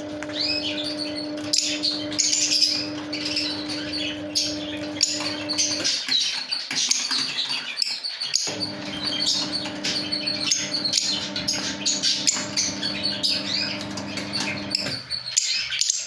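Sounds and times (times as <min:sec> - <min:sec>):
lovebirds chirping and squawking: 0:00.0 - 0:16.0.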